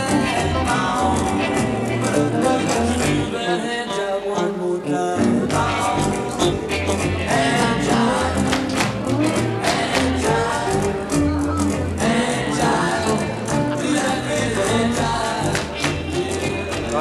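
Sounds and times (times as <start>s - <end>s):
rock and roll band playing: 0.0s - 17.0s.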